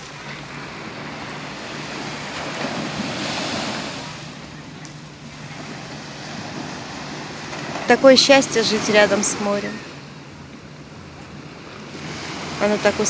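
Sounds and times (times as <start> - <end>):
sea waves washing onto shore: 0.0 - 13.0.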